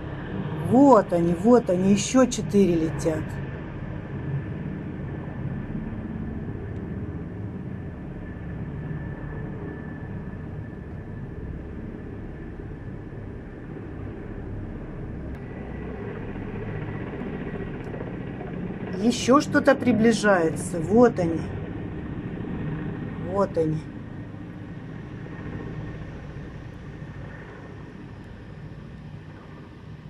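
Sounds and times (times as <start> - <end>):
helicopters flying past: 0.0 - 30.0.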